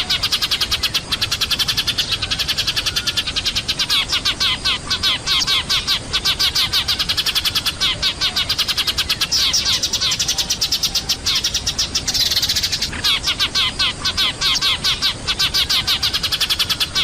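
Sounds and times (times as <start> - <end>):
flock of sparrows chirping: 0.0 - 17.0.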